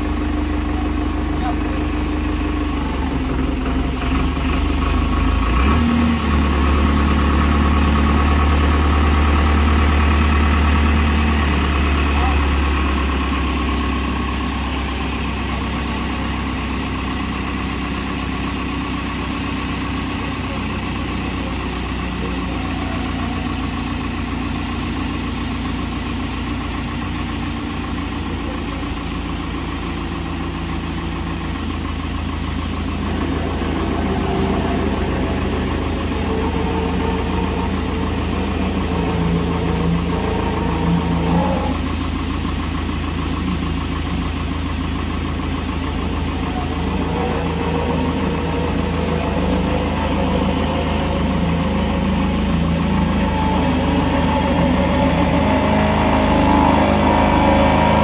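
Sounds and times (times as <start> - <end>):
hydraulic whine: 0.0 - 58.0
tractor engine running: 0.0 - 58.0.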